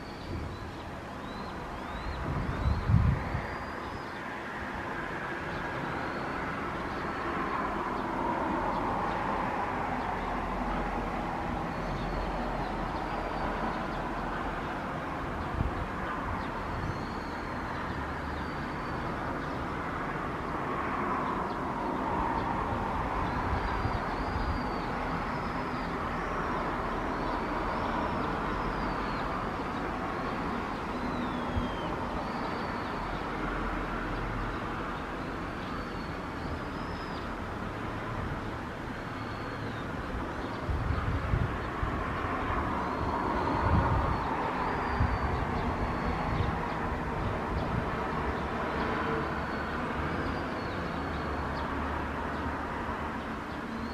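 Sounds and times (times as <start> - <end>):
distant city rumble: 0.0 - 53.9.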